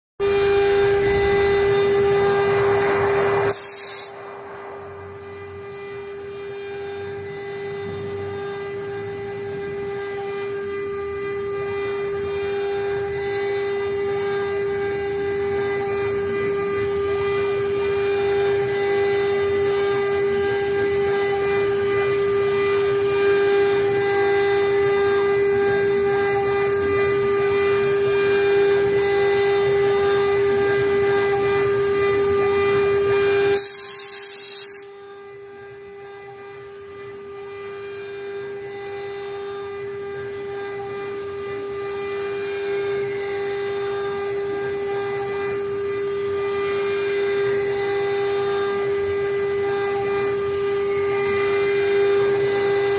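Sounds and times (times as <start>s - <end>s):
router spindle whine: 0.2s - 52.9s.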